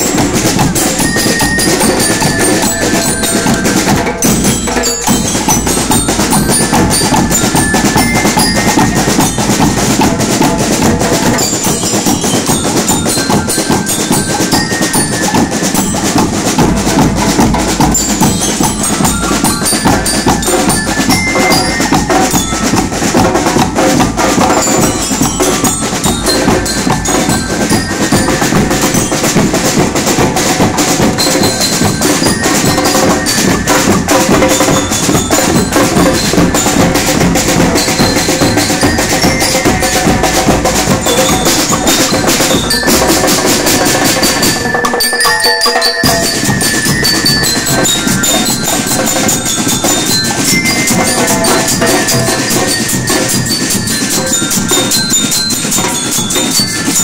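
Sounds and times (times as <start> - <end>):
bell lyres ringing: 0.0 - 57.0
snare and bass drums: 0.0 - 57.0.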